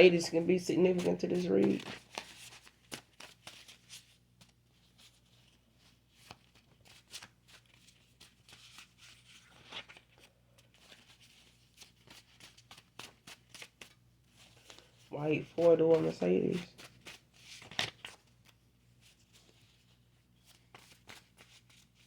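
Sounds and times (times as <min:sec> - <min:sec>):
low room hum: 0:00.0 - 0:22.0
cards clicking and rustling: 0:00.8 - 0:04.6, 0:05.4 - 0:18.6, 0:20.4 - 0:22.0.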